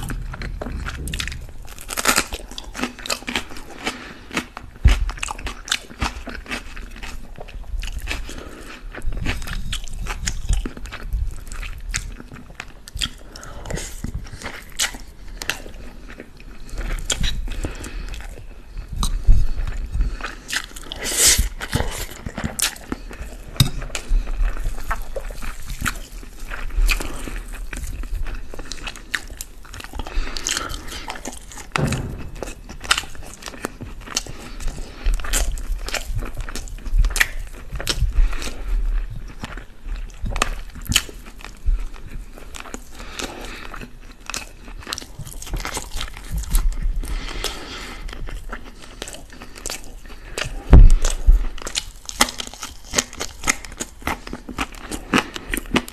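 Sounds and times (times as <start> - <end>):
close chewing with mouth clicks: 0.0 - 55.9.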